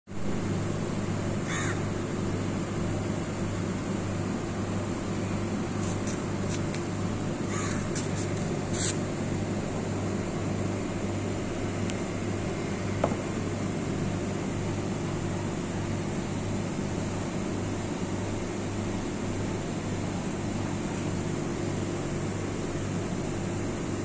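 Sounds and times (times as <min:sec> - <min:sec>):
low machine hum: 0:00.1 - 0:24.0.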